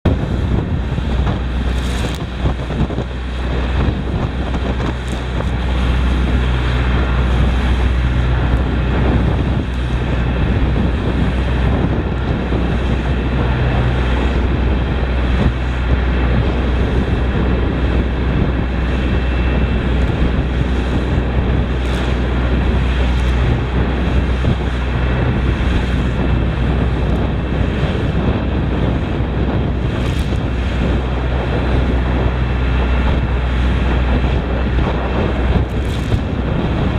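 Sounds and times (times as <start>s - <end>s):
boat engine hum: 0.0s - 36.9s
waves splashing against hull: 0.0s - 36.9s
wind buffeting microphone: 0.0s - 36.9s.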